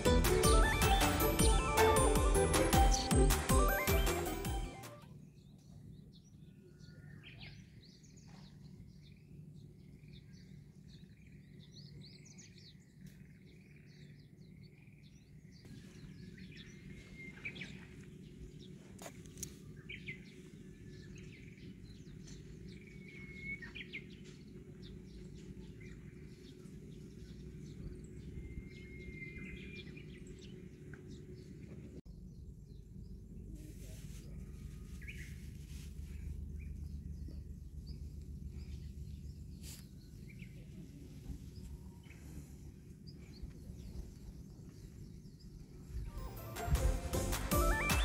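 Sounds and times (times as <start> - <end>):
low background rumble: 5.2 - 46.3.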